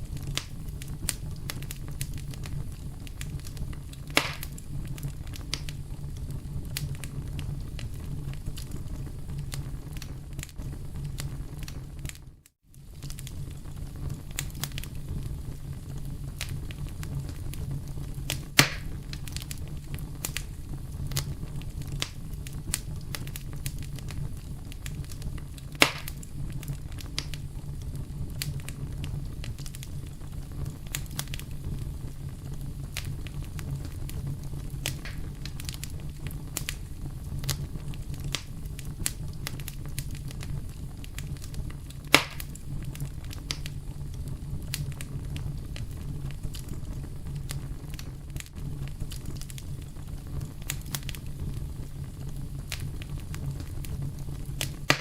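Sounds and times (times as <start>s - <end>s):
bonfire crackling: 0.0s - 55.0s
fire popping: 0.0s - 55.0s
loud fire snaps: 0.0s - 55.0s.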